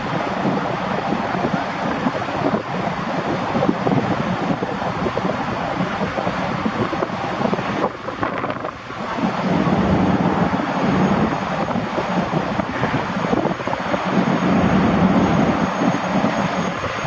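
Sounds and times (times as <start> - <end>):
ferry jet-like engine noise: 0.0 - 17.0
wind buffeting microphone: 0.0 - 17.0.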